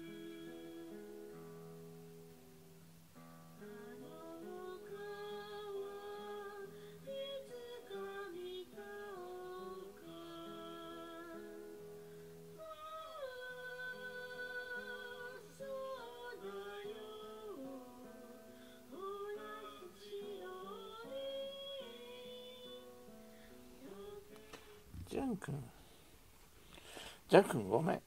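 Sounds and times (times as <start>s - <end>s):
person singing: 0.0s - 1.6s, 3.6s - 12.0s, 12.6s - 25.8s
acoustic guitar chords: 0.0s - 26.0s.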